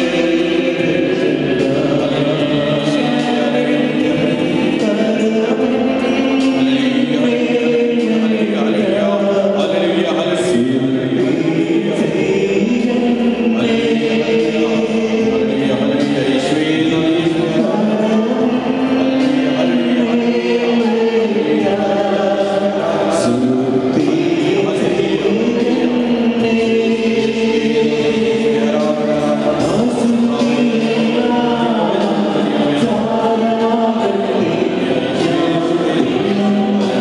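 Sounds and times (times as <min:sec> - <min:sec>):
group singing a hymn: 0:00.0 - 0:37.0.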